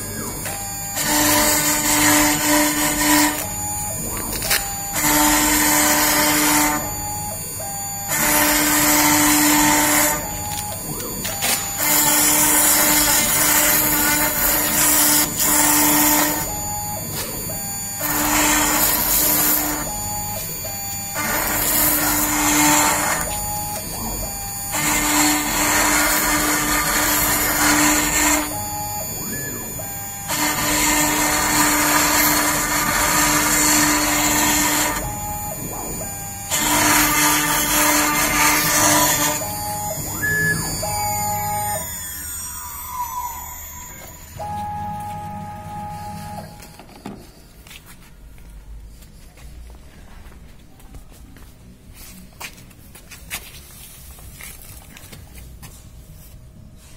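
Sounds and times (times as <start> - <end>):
wood router cutting: 0.0 - 47.3.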